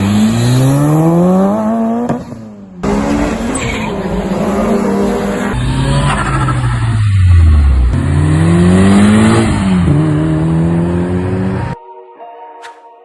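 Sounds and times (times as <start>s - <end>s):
car engines accelerating hard: 0.0s - 11.8s.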